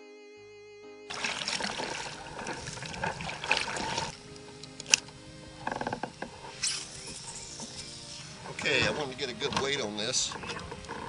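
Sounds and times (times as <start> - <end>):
paddle splashing: 1.1 - 11.0
reed stems brushing hull: 1.1 - 11.0
water lapping: 1.1 - 11.0.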